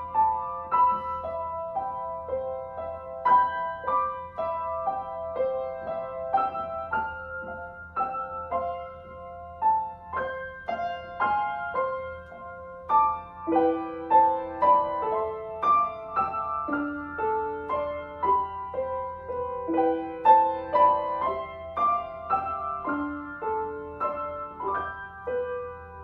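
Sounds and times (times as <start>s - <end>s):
upright piano melody with chords: 0.0s - 26.0s.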